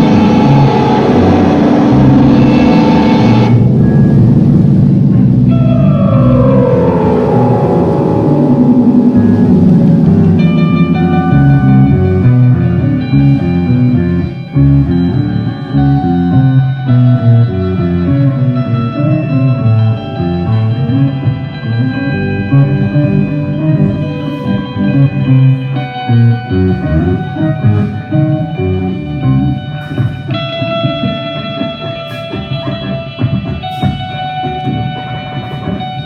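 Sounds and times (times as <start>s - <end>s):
live band playing: 6.9s - 36.0s.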